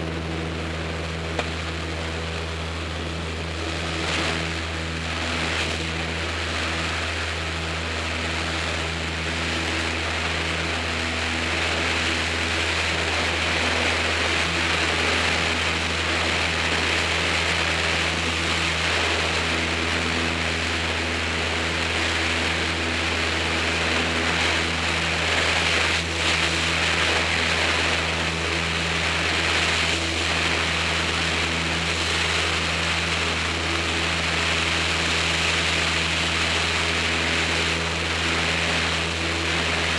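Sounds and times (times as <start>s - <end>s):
propeller airplane engine: 0.0s - 39.9s.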